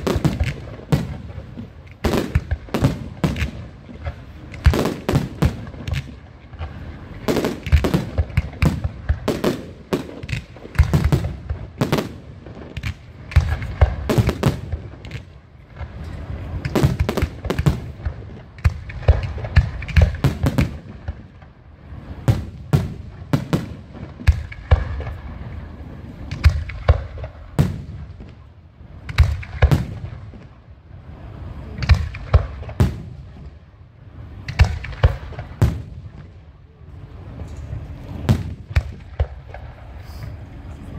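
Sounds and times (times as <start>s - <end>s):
fireworks bangs and cracks: 0.0s - 40.9s.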